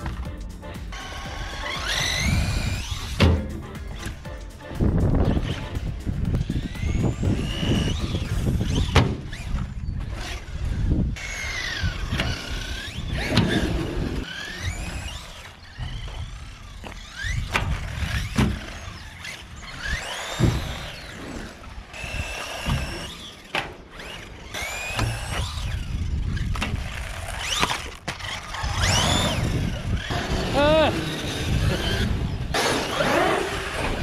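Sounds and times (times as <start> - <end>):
electric toy car motor whining: 0.9 - 3.2, 4.9 - 34.0.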